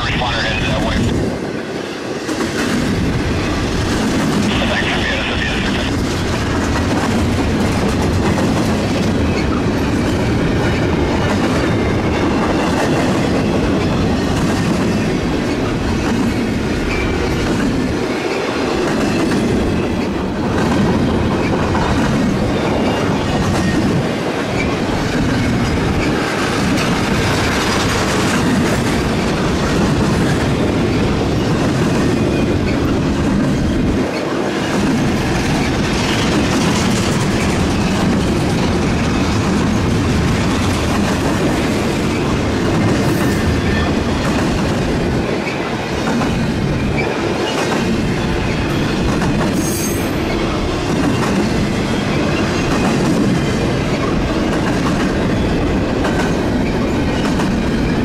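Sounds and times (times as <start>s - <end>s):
train wheels clattering on rails: 0.8s - 58.0s.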